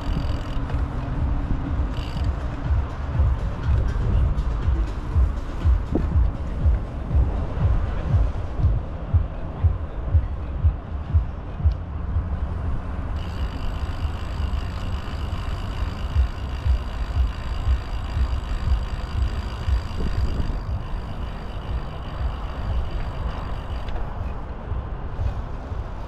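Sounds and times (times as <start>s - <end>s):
faint steady high whine: 0.0s - 24.5s
wind buffeting microphone: 0.0s - 26.0s.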